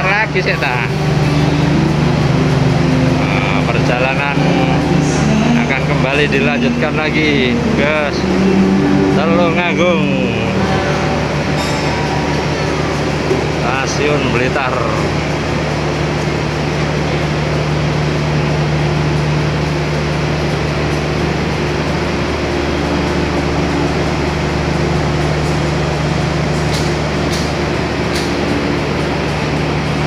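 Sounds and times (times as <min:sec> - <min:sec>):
diesel train idling: 0:00.0 - 0:30.0.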